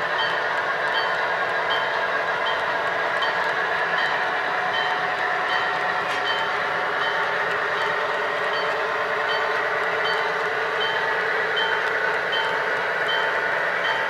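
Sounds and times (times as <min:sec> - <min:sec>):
model train diesel locomotive sound: 0:00.0 - 0:14.0.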